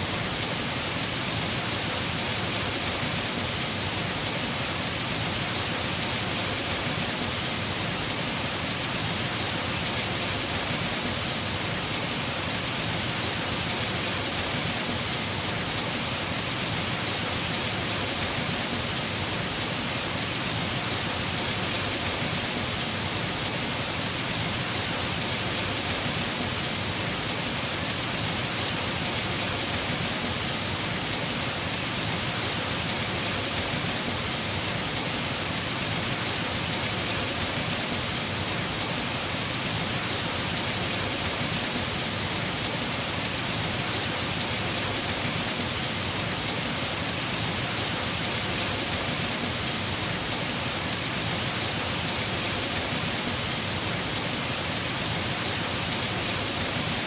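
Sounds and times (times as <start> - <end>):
heavy rain on roof: 0.0 - 57.0.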